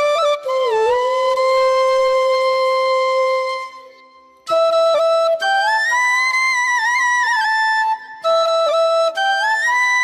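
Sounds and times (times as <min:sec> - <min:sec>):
slow flute melody: 0:00.0 - 0:10.0.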